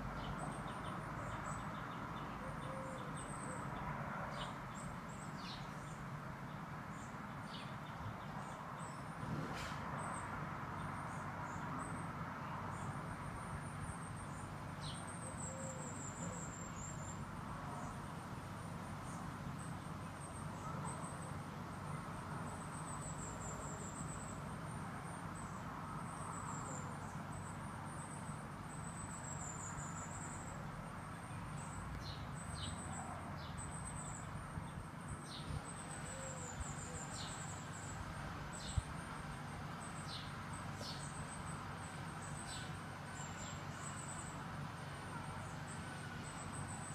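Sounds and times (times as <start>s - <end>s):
songbirds calling with trills: 0.0s - 46.9s.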